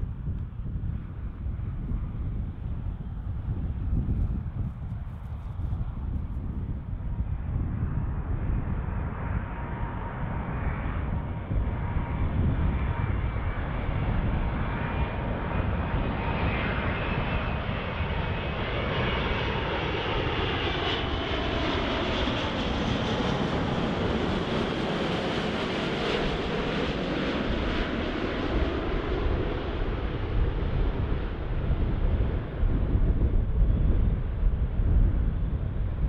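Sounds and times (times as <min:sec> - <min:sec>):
jet airliner engines passing: 0:00.0 - 0:36.0.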